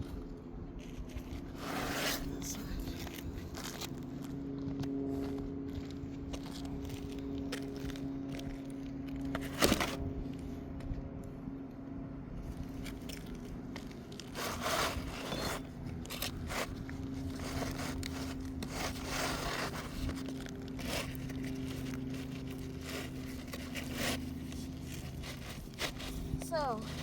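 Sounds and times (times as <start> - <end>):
steady low hum: 0.0 - 27.0
shingle scraping and crunching: 0.6 - 10.5, 12.5 - 27.0.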